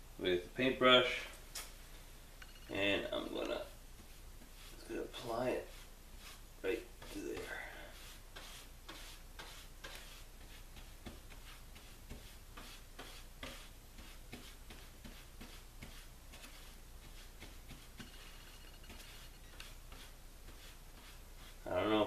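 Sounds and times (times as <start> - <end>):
paintbrush dabbing on wood: 2.7 - 22.0.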